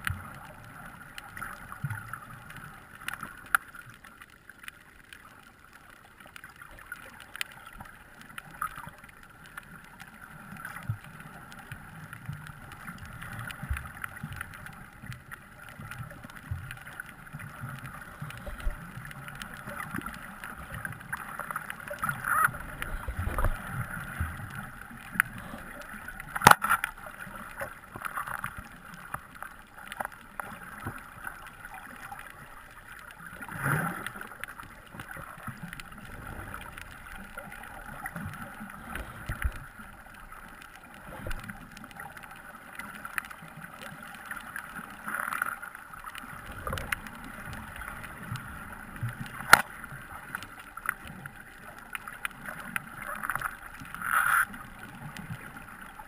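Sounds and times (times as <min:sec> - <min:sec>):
muffled underwater noise: 0:00.0 - 0:56.0.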